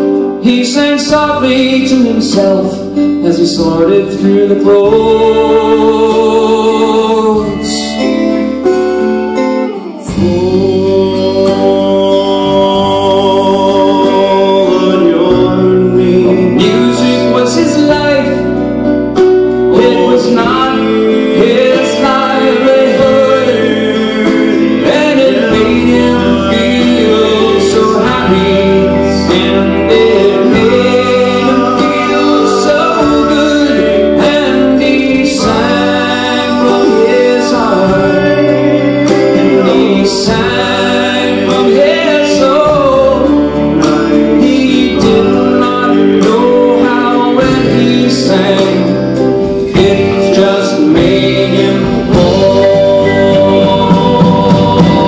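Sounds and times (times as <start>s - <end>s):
live country-pop band: 0.0s - 55.0s
person singing: 0.0s - 55.0s.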